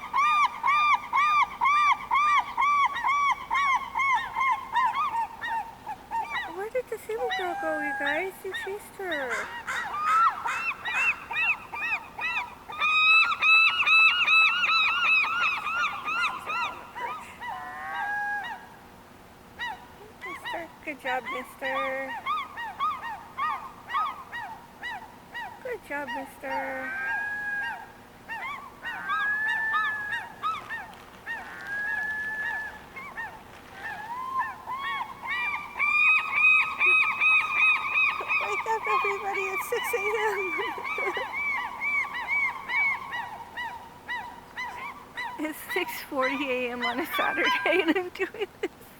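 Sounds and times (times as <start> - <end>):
seagulls calling: 0.0 - 18.9, 19.5 - 48.7.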